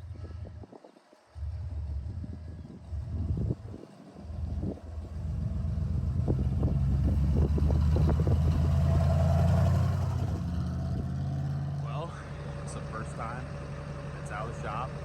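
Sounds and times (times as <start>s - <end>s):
truck engine running: 1.3s - 15.0s.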